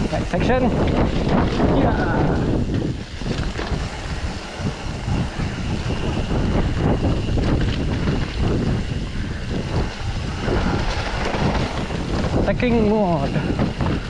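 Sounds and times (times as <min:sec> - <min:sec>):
bike jolting and rattling: 0:00.0 - 0:14.0
tyres rumbling on dirt: 0:00.0 - 0:14.0
wind buffeting microphone: 0:00.0 - 0:14.0.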